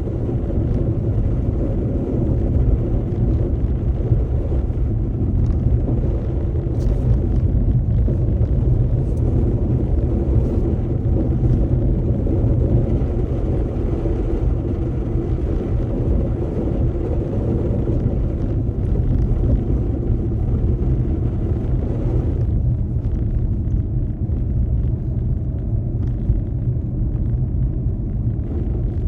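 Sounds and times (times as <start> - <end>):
engine and road noise rumble: 0.0 - 29.0.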